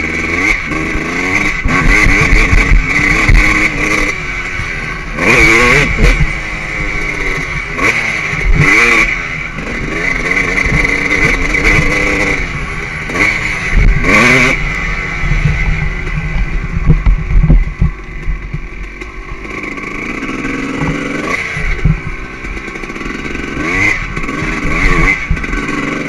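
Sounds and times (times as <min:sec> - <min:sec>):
motorcycle engine accelerating hard: 0:00.0 - 0:26.0.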